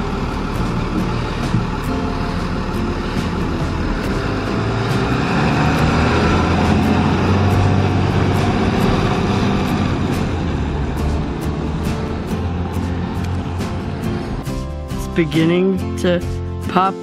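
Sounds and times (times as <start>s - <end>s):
bus engine pulling away: 0.0s - 17.0s.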